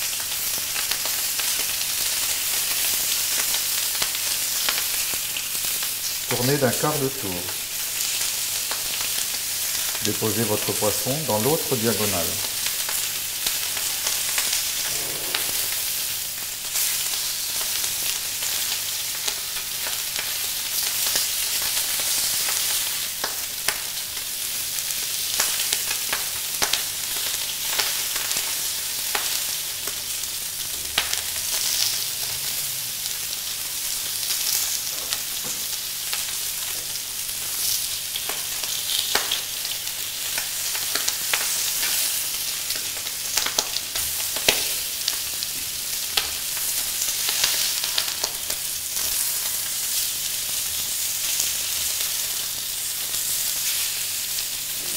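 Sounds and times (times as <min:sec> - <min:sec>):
fish sizzling on a grill: 0:00.0 - 0:54.9.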